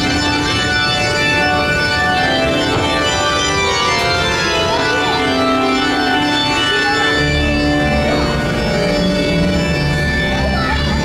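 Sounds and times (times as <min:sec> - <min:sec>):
organ chords: 0:00.0 - 0:11.0.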